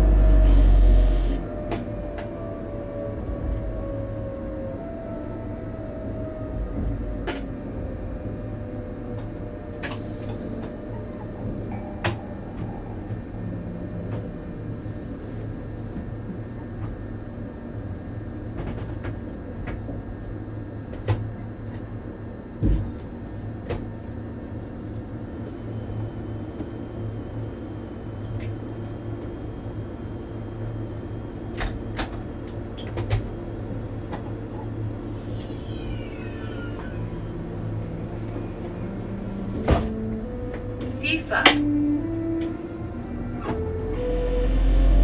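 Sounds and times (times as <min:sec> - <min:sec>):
electric train equipment humming: 0:00.0 - 0:45.0.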